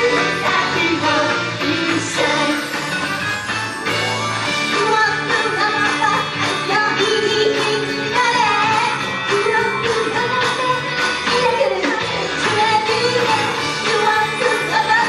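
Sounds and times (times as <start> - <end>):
women singing pop song: 0.0 - 2.9, 4.7 - 15.0.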